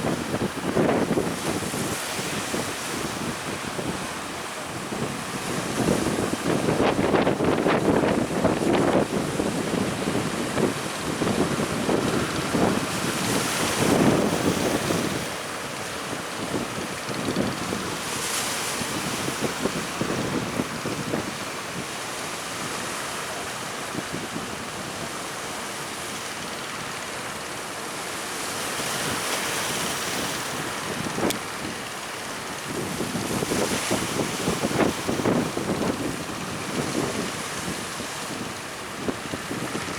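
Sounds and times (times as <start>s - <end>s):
wind buffeting microphone: 0.0s - 22.0s, 28.9s - 39.9s
sea waves breaking: 0.0s - 39.9s.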